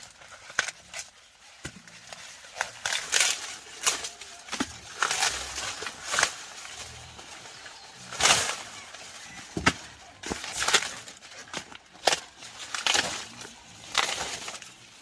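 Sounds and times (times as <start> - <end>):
corn ears snapping: 0.0 - 15.0
dry corn plants rustling: 0.0 - 15.0.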